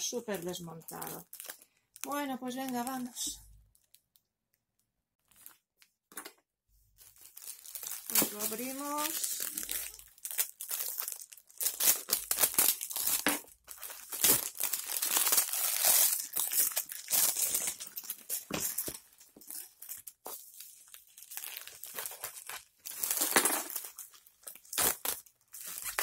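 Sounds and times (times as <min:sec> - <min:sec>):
plastic and bubble wrap crinkling: 0:00.0 - 0:06.1, 0:06.9 - 0:26.0.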